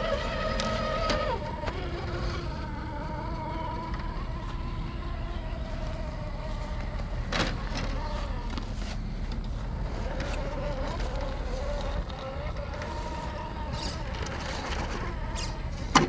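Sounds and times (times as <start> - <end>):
rc car electric motor whine: 0.0 - 16.0.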